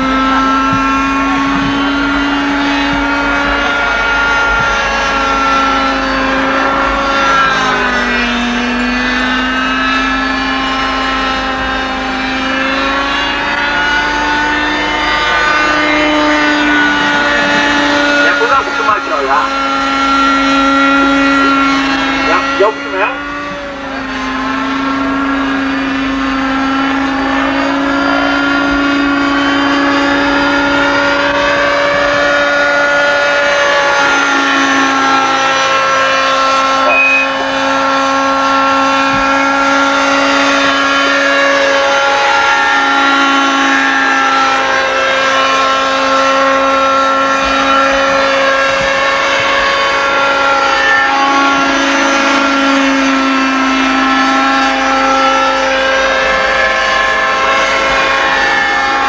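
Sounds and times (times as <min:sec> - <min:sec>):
model helicopter engine buzzing: 0:00.0 - 0:59.0.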